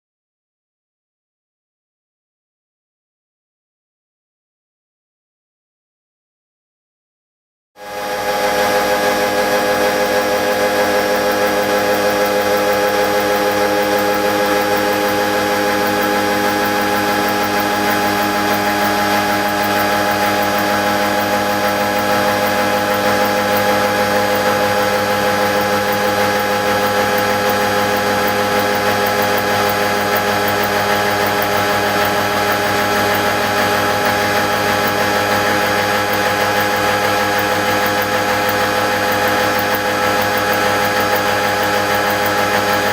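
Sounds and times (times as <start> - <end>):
milling machine whining hum: 7.9 - 42.9.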